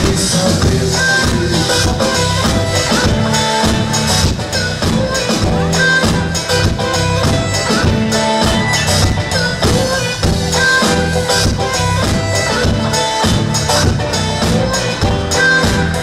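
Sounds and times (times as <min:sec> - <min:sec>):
live pop band: 0:00.0 - 0:16.0
reedy lead melody: 0:00.0 - 0:16.0.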